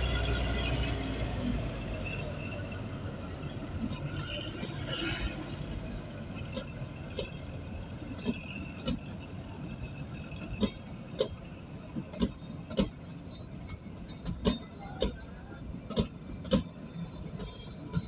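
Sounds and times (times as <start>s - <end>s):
train running: 0.0s - 18.0s.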